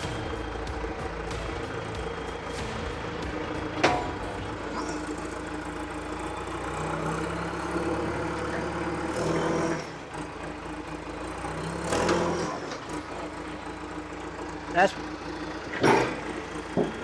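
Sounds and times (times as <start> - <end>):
heavy equipment engine running: 0.0 - 17.0.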